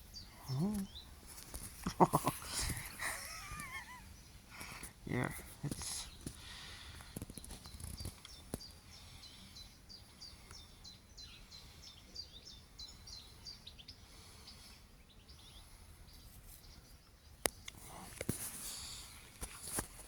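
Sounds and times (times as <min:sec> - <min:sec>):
small bird chirping: 0:00.0 - 0:17.8.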